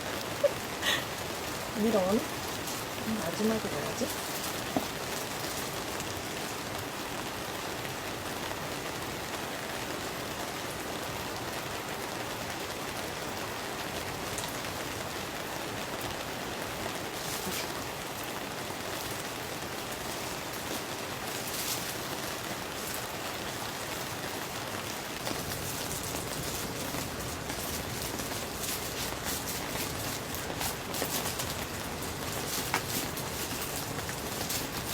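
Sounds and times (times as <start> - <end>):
rain on a tent: 0.0 - 34.9.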